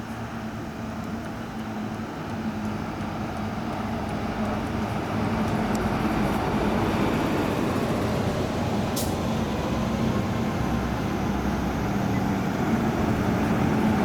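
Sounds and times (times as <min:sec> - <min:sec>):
diesel bus engine humming: 0:00.0 - 0:14.0.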